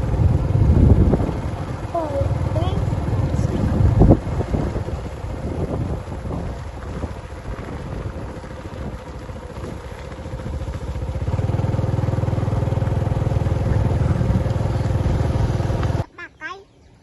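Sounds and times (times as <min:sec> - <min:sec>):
vehicle engine low throb: 0:00.0 - 0:16.1.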